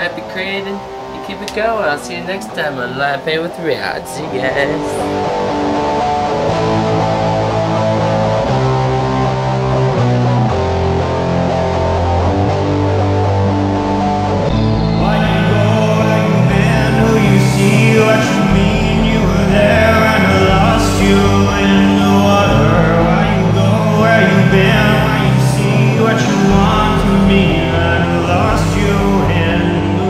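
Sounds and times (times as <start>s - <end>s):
rock song with guitar and vocals: 4.5s - 30.0s.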